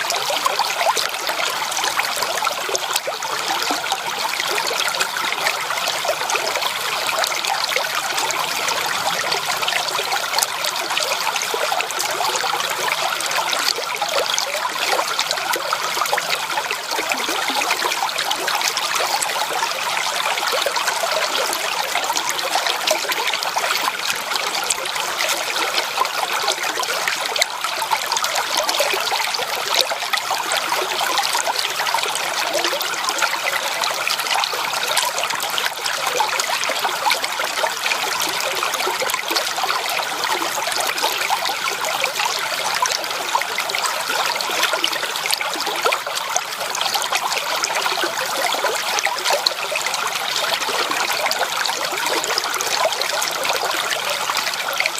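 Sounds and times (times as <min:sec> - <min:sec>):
creek water splashing over stones: 0:00.0 - 0:54.9.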